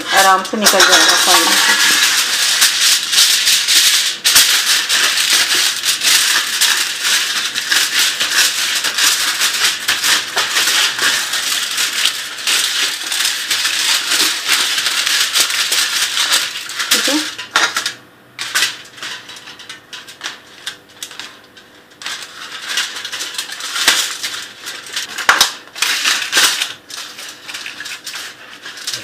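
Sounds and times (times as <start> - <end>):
aluminium foil crinkling: 0.0 - 29.0.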